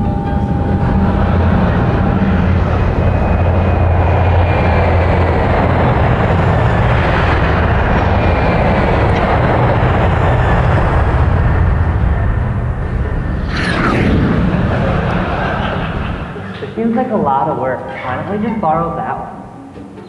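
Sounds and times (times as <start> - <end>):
aircraft engines rumbling: 0.0 - 18.5.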